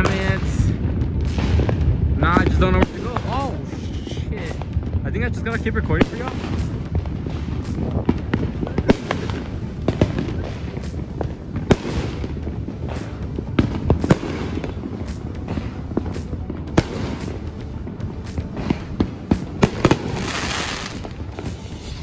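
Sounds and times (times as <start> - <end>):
fireworks bangs and pops: 0.0 - 22.0
low rumble: 0.0 - 22.0.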